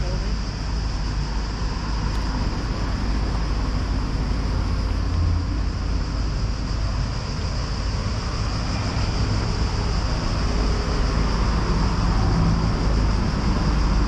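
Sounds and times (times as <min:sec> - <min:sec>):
even high hiss: 0:00.0 - 0:14.0
low rumble of traffic: 0:00.0 - 0:14.0.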